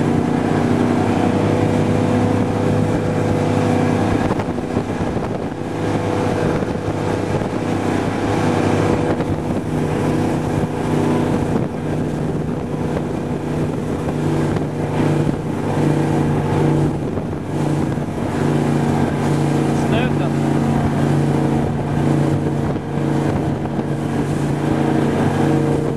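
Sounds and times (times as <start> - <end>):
powerboat engine running hard: 0.0 - 25.9
water rushing: 0.0 - 25.9
wind on microphone: 0.0 - 25.9.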